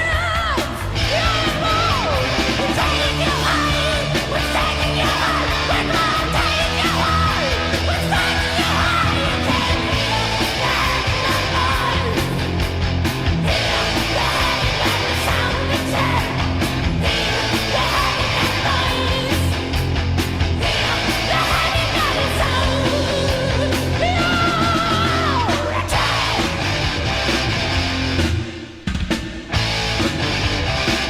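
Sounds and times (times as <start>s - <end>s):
yelled vocals: 0.0s - 28.4s
heavy metal band playing: 0.0s - 31.0s.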